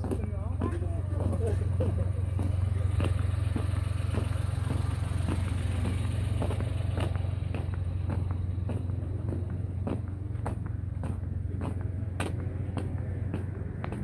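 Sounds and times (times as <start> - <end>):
footsteps on pavement: 0.0 - 14.0
vehicle engine idling: 0.0 - 14.0.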